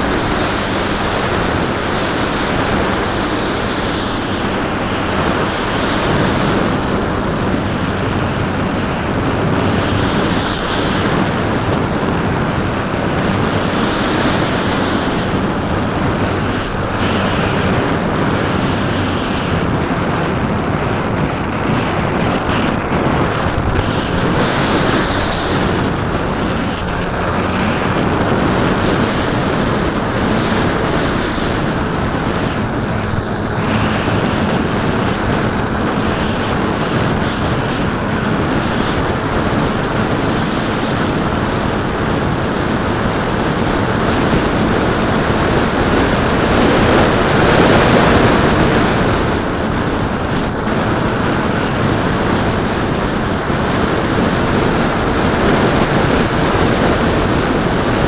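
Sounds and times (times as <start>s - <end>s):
electric motor and propeller hum: 0.0s - 58.0s
wind rushing over camera: 0.0s - 58.0s.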